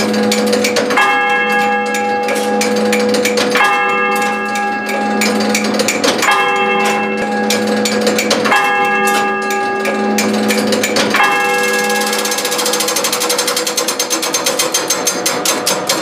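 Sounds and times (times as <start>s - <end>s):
church clock bell striking: 0.0s - 13.8s
fast rattle of clicks: 0.0s - 16.0s
mechanical clicks: 0.0s - 16.0s.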